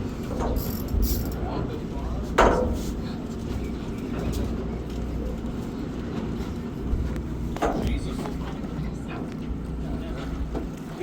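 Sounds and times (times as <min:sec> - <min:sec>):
boat engine low rumble: 0:00.0 - 0:11.0.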